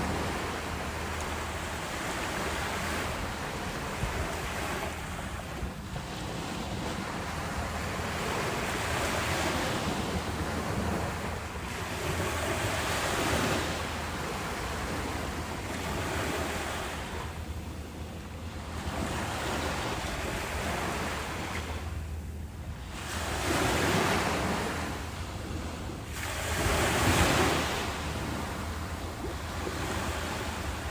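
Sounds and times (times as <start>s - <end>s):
ocean surf washing in: 0.0s - 17.5s, 22.9s - 30.9s.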